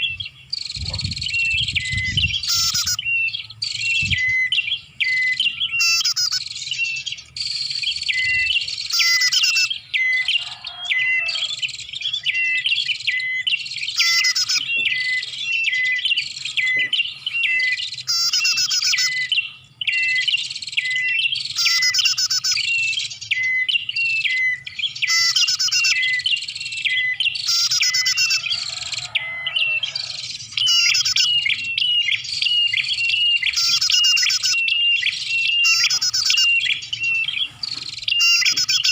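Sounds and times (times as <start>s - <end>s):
sharp high bird chirps: 0.0s - 38.9s.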